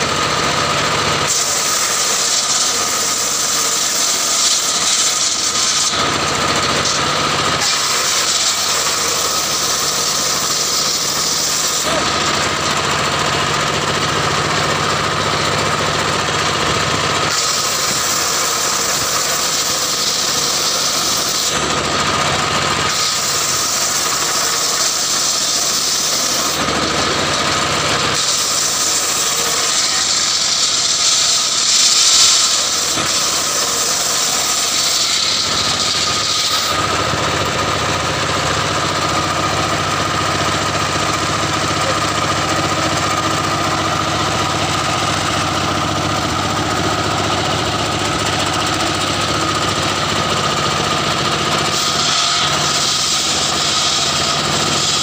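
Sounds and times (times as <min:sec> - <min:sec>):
circular saw cutting wood: 0:00.0 - 0:55.0
diesel engine running: 0:00.0 - 0:55.0
saw blade spinning free: 0:00.0 - 0:55.0.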